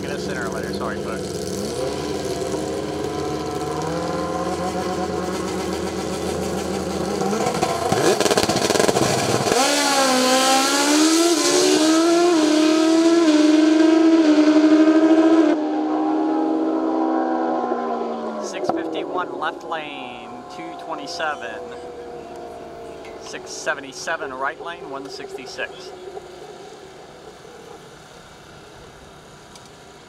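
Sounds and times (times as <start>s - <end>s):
motorcycles revving and launching: 0.0s - 30.0s.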